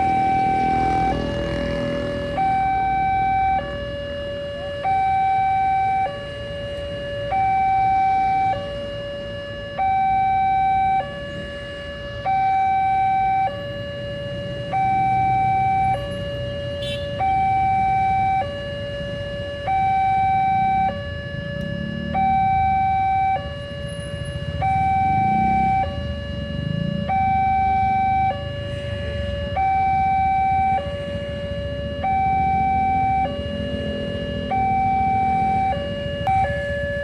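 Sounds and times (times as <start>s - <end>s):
level-crossing two-tone alarm: 0.0s - 37.0s.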